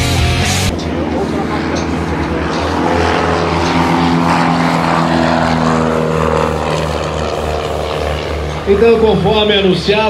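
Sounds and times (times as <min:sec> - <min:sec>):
propeller aircraft engines droning: 0:00.0 - 0:10.0.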